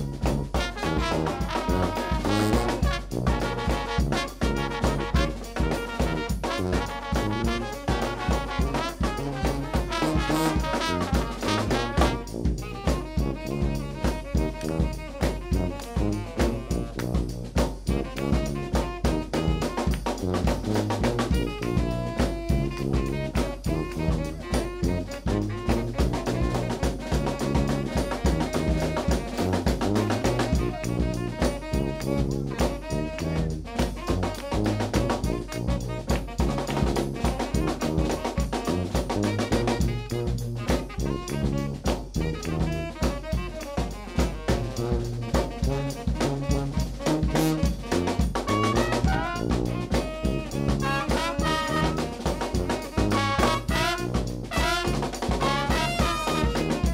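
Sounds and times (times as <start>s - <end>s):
bass and snare drum beat: 0.0s - 56.9s
sousaphone bass line: 0.0s - 56.9s
trumpet trombone and saxophone: 0.0s - 56.9s.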